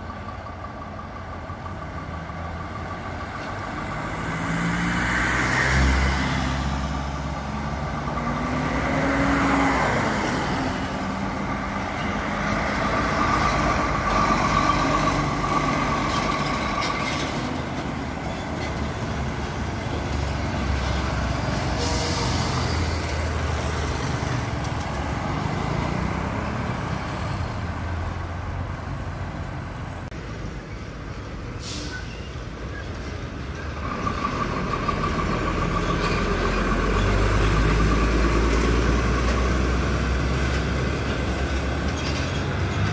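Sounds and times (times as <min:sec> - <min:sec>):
trucks driving past: 0:00.0 - 0:42.9.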